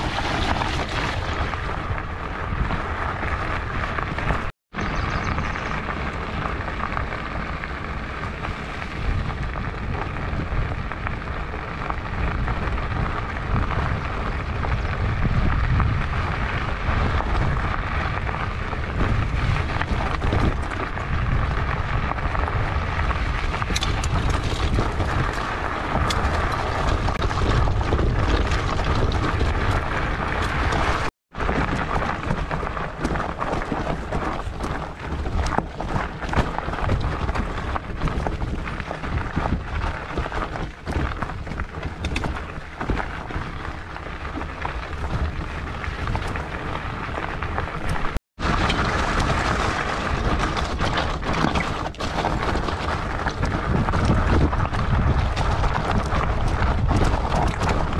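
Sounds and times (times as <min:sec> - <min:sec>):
stones rattling and knocking: 0:00.0 - 0:01.9, 0:11.8 - 0:57.9
bike tyres rolling over gravel: 0:00.0 - 0:57.9
wind on microphone: 0:00.0 - 0:57.9.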